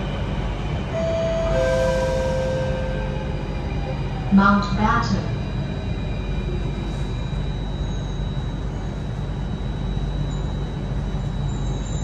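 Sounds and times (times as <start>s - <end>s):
train carriage rumble and hum: 0.0s - 12.0s.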